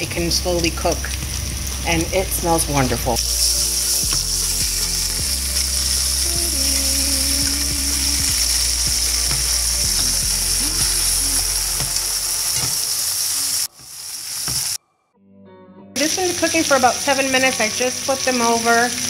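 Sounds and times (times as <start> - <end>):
meat sizzling in oil: 0.0 - 14.8, 16.0 - 19.0.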